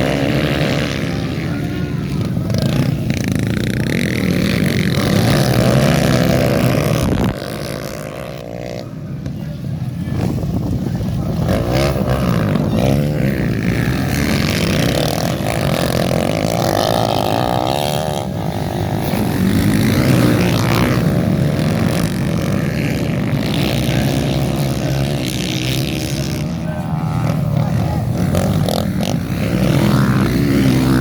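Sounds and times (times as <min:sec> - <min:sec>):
motocross engines revving: 0:00.0 - 0:31.0.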